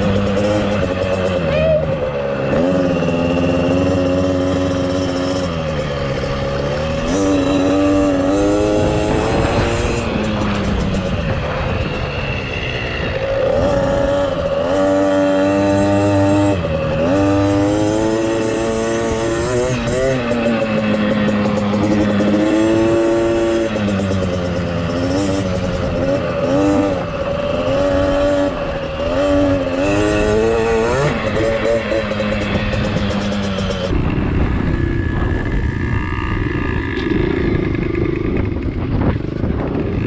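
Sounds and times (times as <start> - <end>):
small two-stroke engine revving: 0.0 - 40.0.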